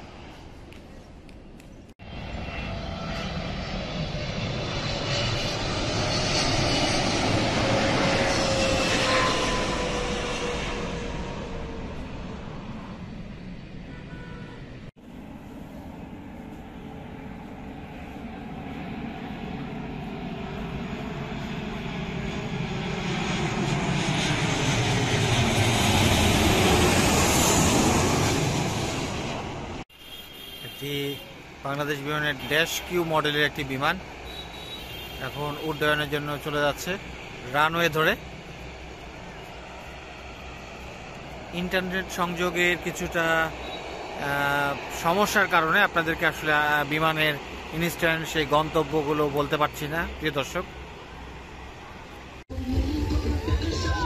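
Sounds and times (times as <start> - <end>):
jet airliner approaching: 0.0 - 54.0.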